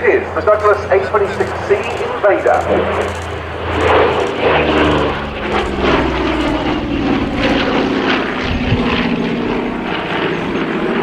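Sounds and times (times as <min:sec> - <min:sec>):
aircraft piston engines droning: 0:00.0 - 0:11.0.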